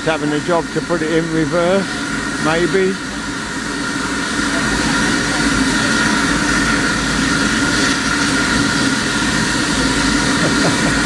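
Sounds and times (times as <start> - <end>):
steam train rumble and hiss: 0.0 - 11.0.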